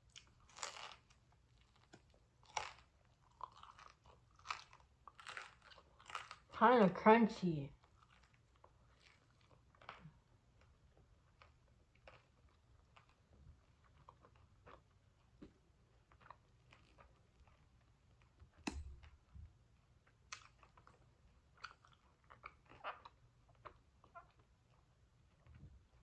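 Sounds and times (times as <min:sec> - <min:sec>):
crunchy chewing and mouth clicks: 0:00.0 - 0:06.6, 0:07.7 - 0:26.0.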